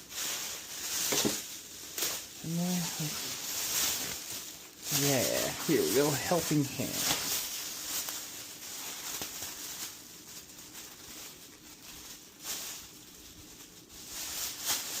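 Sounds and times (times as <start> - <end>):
soft rustling handling noises: 0.0 - 15.0.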